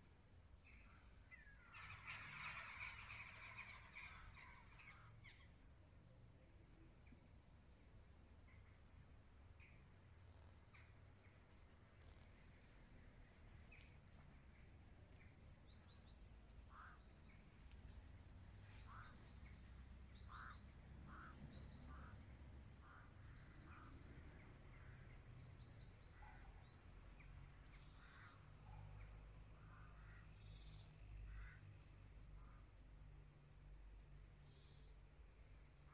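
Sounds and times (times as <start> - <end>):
songbirds chirping: 0.0 - 35.9.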